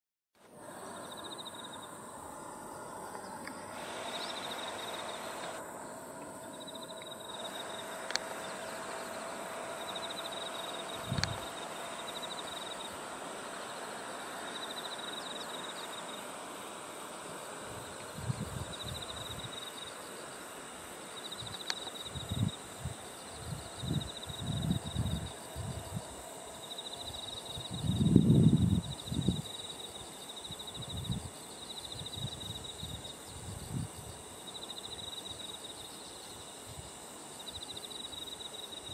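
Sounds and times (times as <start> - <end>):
insect chorus buzzing: 0.4 - 38.9
insect pulsed trill: 0.6 - 38.9
sharp insect chirps: 0.7 - 38.9.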